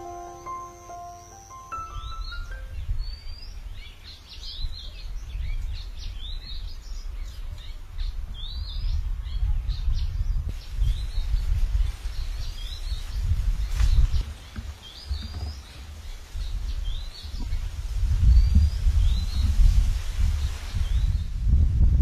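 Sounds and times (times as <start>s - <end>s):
birds chirping: 0.0s - 19.7s.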